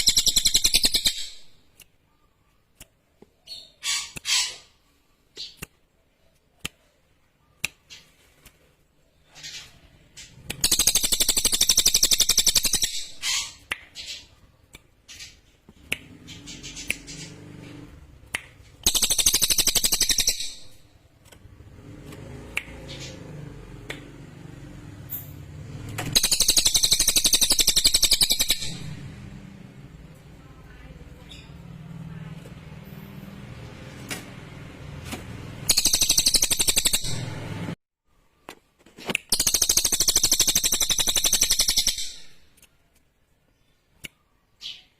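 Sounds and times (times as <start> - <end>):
bird chirps: 0.0 - 8.3, 9.0 - 21.8, 26.1 - 33.9, 35.6 - 37.8, 39.3 - 44.9.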